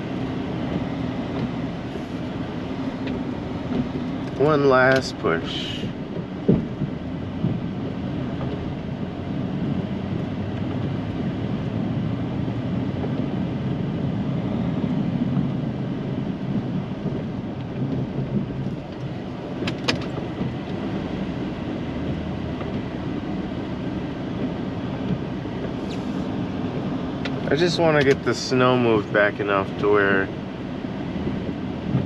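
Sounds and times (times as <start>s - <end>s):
snow plow truck rumbling: 0.0s - 32.0s.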